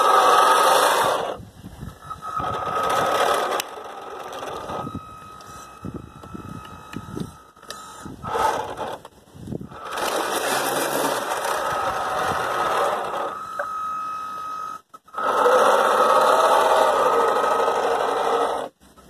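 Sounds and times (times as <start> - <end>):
electric motors whining: 0.0 - 18.8.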